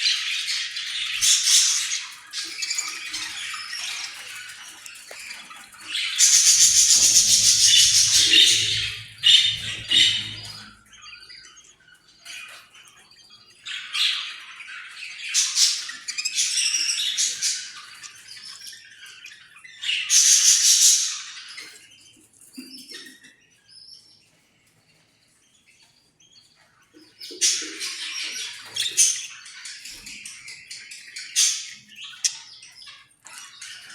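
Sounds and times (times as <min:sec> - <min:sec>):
parrot squawking and chirping: 0:00.0 - 0:22.0, 0:26.8 - 0:33.9.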